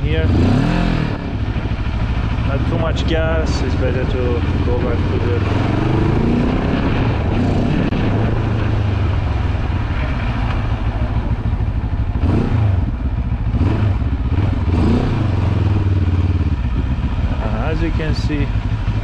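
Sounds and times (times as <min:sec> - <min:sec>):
motorcycle engine running at low revs: 0:00.0 - 0:19.0.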